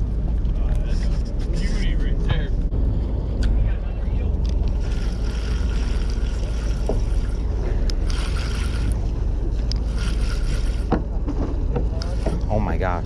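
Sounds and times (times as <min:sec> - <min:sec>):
low boat rumble: 0:00.0 - 0:13.0.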